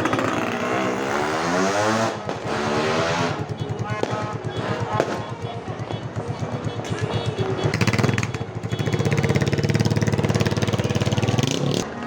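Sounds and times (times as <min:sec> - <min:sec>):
motorcycle engine running: 0:00.0 - 0:01.3, 0:02.2 - 0:11.9.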